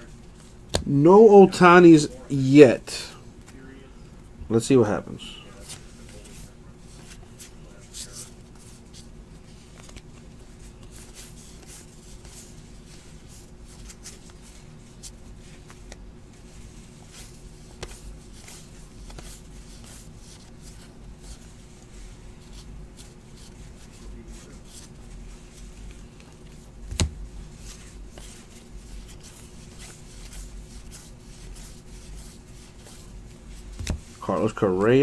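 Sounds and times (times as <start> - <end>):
cards swishing and clicking: 5.6 - 35.0.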